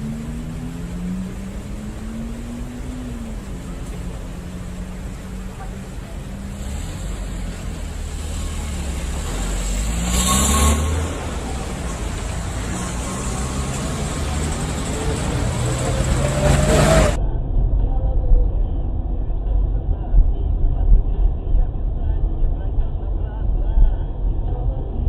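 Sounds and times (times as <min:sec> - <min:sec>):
rushing noise: 0:00.0 - 0:24.4
car engine and tyre noise: 0:00.0 - 0:25.0.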